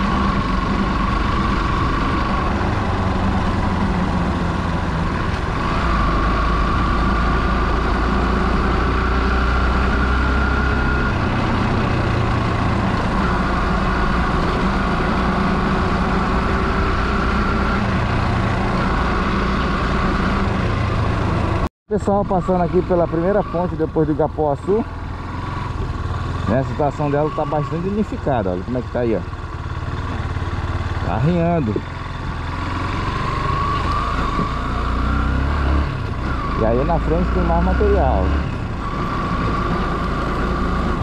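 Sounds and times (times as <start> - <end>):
vehicle engine and road rumble: 0.0 - 41.0.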